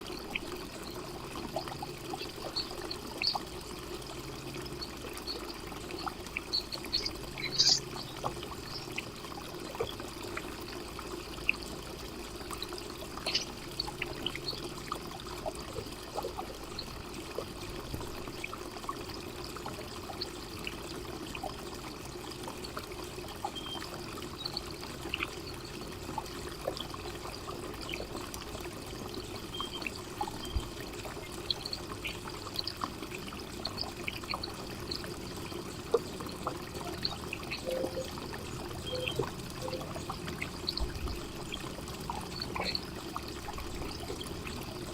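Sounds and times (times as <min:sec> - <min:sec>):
fountain trickling: 0:00.0 - 0:44.9.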